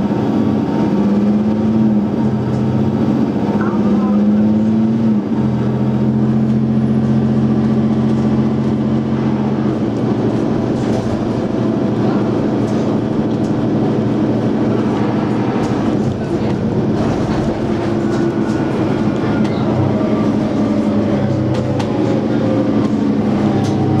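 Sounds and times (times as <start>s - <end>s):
bus body rumble and rattle: 0.0s - 24.0s
bus engine pulling hard: 0.0s - 24.0s.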